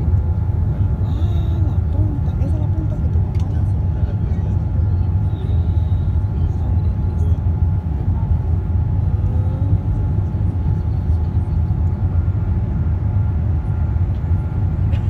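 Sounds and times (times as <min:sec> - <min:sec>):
faint steady whine: 0:00.0 - 0:15.0
jet engines drone in cabin: 0:00.0 - 0:15.0.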